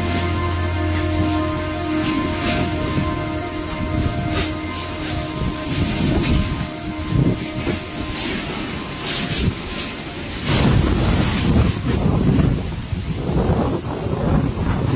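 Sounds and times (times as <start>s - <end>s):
strong wind gusting: 0.0s - 14.9s.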